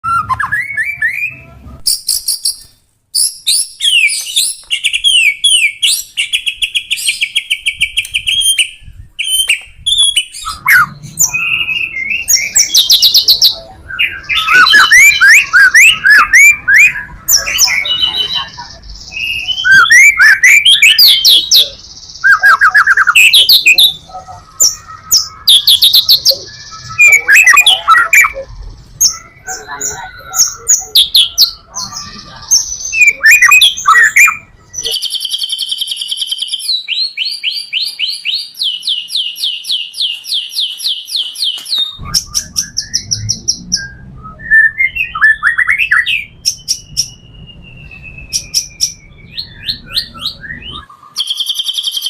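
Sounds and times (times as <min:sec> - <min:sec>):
bird singing with rapid trills: 0:00.0 - 0:52.0.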